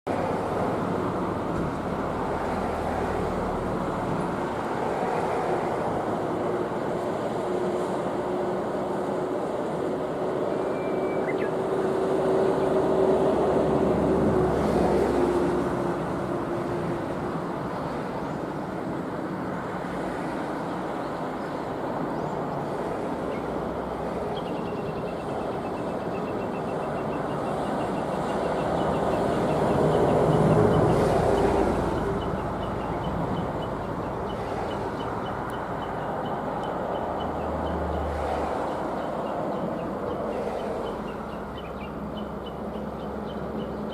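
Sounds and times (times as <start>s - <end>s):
vehicles passing on highway: 0.0s - 43.9s.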